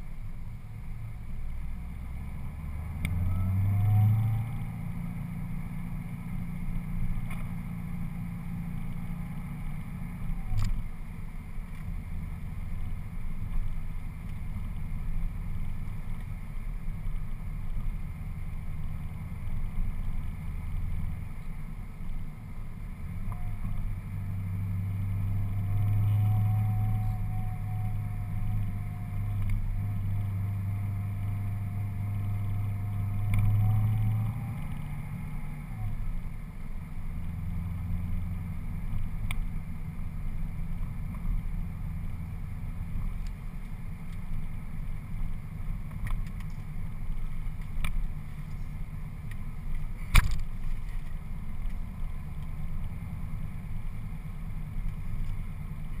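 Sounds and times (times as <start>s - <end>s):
car exhaust drone: 0.0s - 56.0s
faint steady whine: 0.0s - 56.0s.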